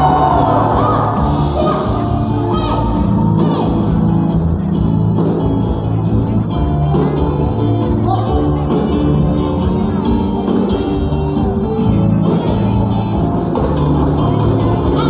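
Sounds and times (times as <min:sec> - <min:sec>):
band music with steady beat: 0:00.0 - 0:15.0.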